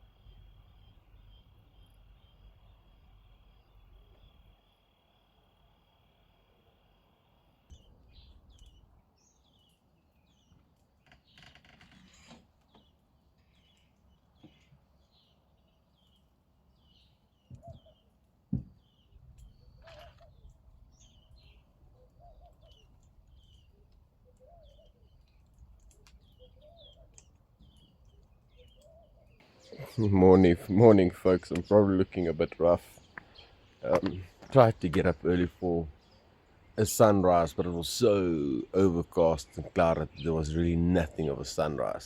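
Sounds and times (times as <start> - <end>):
lower bird calls: 0.0 - 42.0
small birds chirping: 0.0 - 42.0.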